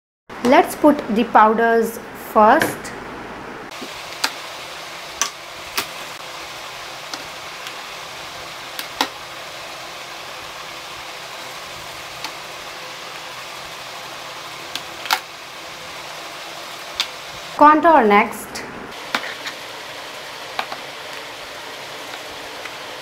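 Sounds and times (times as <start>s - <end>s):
steady hiss: 2.8s - 23.0s.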